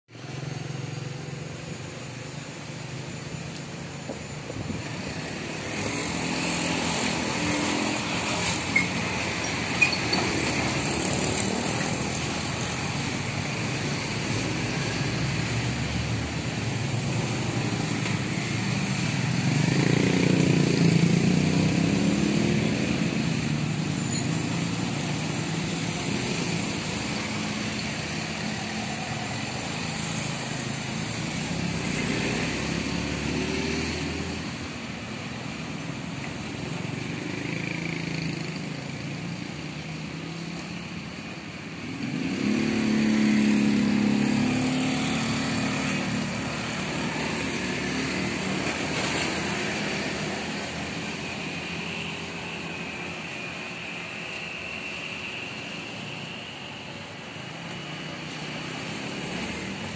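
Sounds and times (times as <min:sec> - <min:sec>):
motorcycles passing: 0:00.2 - 0:59.9
cars passing over rails: 0:02.4 - 0:59.9.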